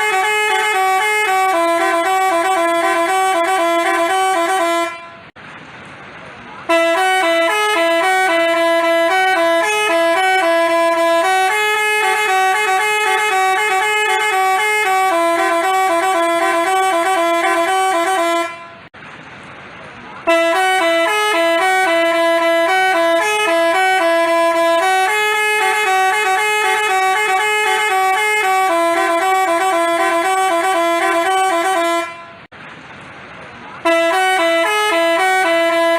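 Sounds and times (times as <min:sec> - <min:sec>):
bus horn playing a tune: 0:00.0 - 0:05.4, 0:06.6 - 0:19.0, 0:20.2 - 0:32.5, 0:33.8 - 0:35.9.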